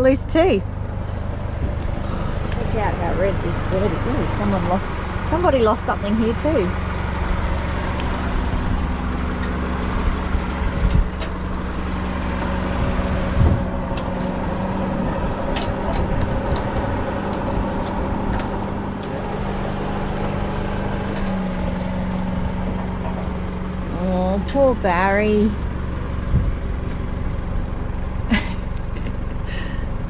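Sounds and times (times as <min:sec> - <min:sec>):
engine running with low hum: 0:00.0 - 0:30.0.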